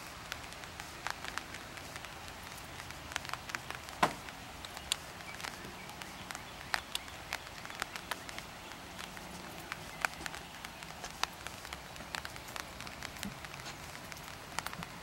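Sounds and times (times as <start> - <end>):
raindrops ticking: 0.0 - 15.0
steady hiss of rain: 0.0 - 15.0.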